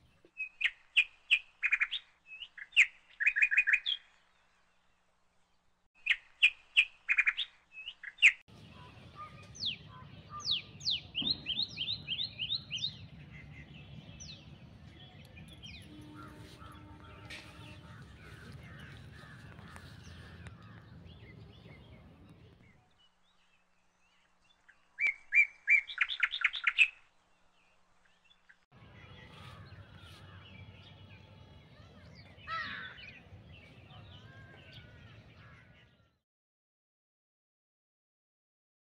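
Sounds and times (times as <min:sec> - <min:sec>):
small birds chirping: 0:00.0 - 0:36.2.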